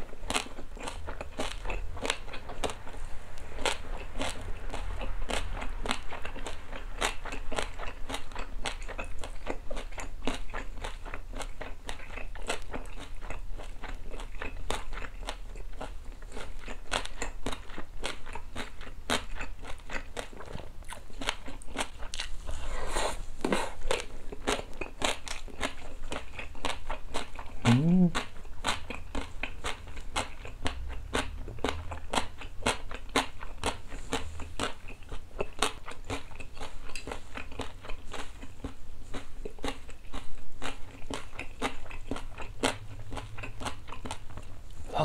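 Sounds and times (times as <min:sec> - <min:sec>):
person chewing crunchy food: 0:00.0 - 0:45.0.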